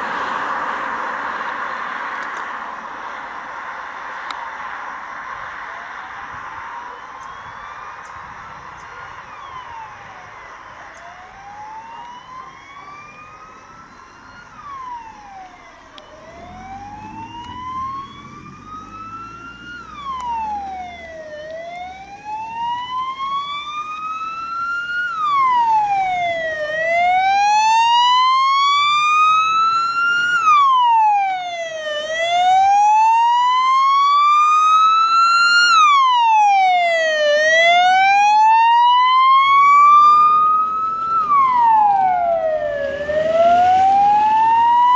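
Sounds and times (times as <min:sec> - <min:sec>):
emergency siren wailing: 0:05.1 - 0:44.9.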